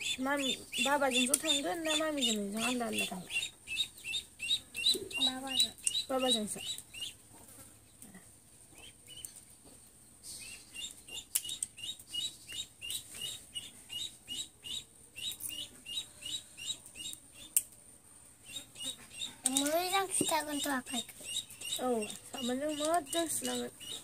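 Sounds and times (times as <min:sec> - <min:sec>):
small bird chirping: 0:00.0 - 0:08.1, 0:08.7 - 0:17.7, 0:18.4 - 0:24.0.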